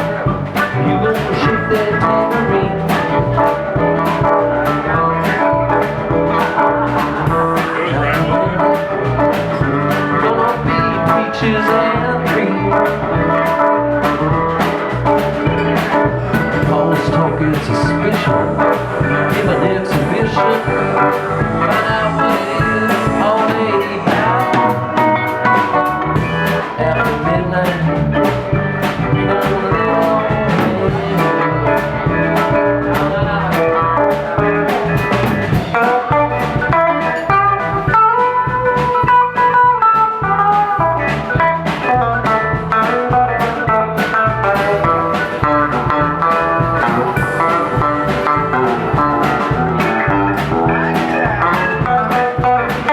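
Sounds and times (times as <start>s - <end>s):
bass: 0.0s - 52.9s
drum kit beat: 0.0s - 52.9s
electric guitar: 0.0s - 52.9s.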